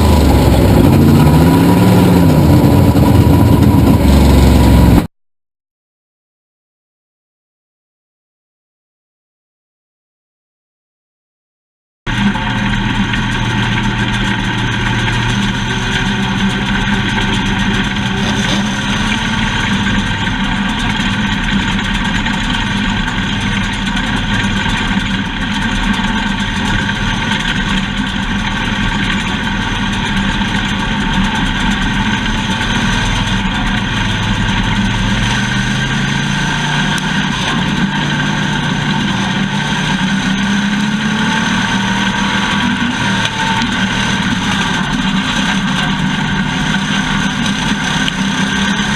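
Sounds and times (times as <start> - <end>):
race car engine running: 0.0 - 5.1, 12.1 - 48.9.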